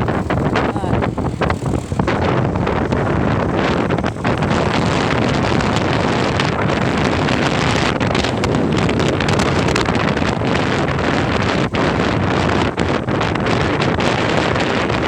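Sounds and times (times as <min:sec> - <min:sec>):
vehicle running noise: 0:00.0 - 0:15.0
wind rush on microphone: 0:00.0 - 0:15.0.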